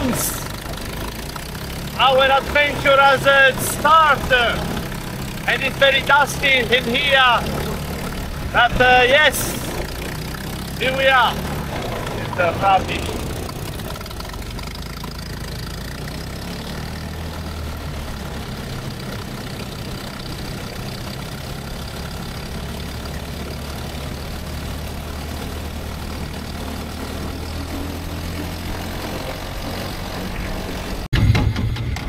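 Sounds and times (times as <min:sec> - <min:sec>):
dune buggy engine running: 0:00.0 - 0:32.0.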